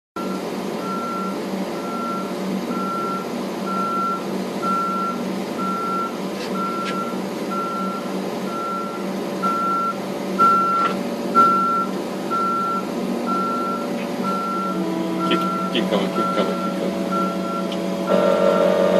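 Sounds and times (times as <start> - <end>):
diesel engine running: 0.2 - 18.9
truck reversing alarm beeping: 0.2 - 18.9.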